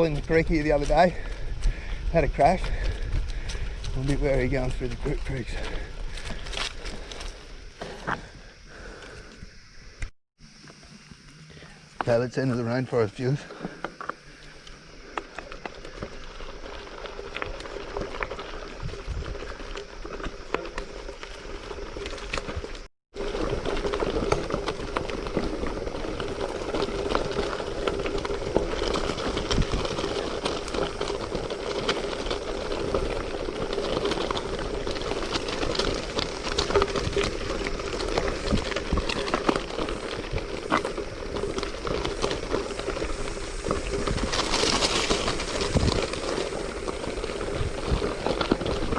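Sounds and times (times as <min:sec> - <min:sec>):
bike tyres crunching on gravel: 0:00.0 - 0:48.9.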